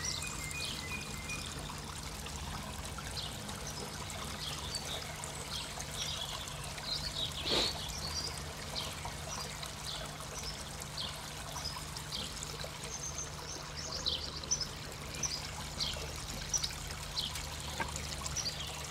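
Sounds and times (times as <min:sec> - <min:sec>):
water splashing into pond: 0:00.0 - 0:18.9.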